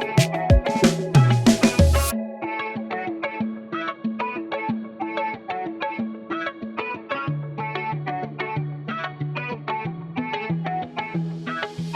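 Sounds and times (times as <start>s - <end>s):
plucked notes in steady rhythm: 0.0s - 11.3s.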